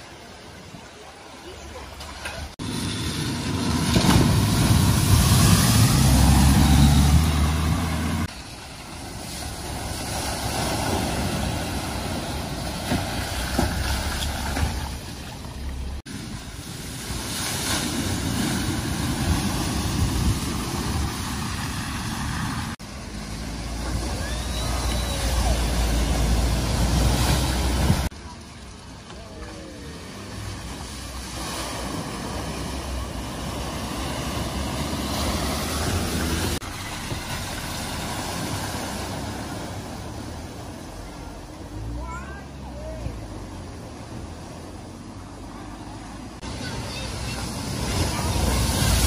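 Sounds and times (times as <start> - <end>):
car engines running: 0.0 - 17.0, 18.9 - 49.0
tyres splashing through water: 0.0 - 49.0.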